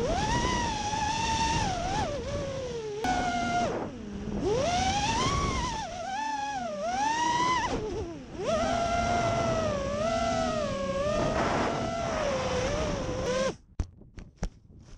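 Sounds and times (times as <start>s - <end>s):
drone propellers whining: 0.0s - 13.6s.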